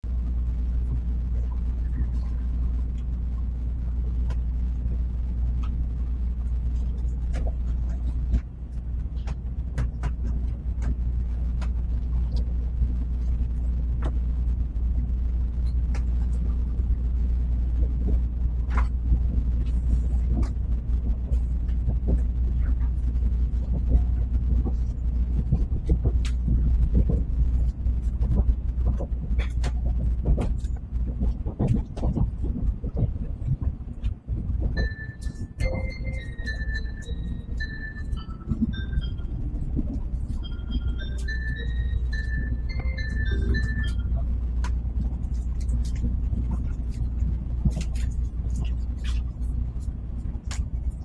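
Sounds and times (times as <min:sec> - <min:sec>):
train interior low rumble: 0:00.0 - 0:51.0.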